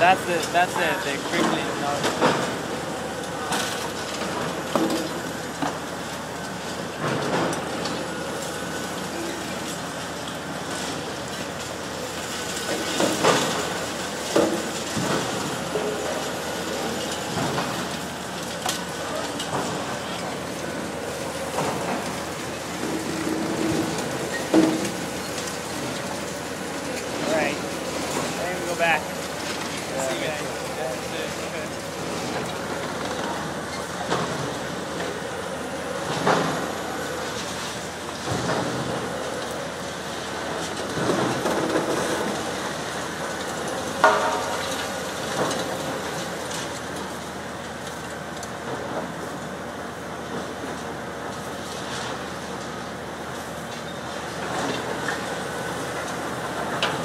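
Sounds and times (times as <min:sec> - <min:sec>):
excavator crushing concrete: 0:00.0 - 0:57.0.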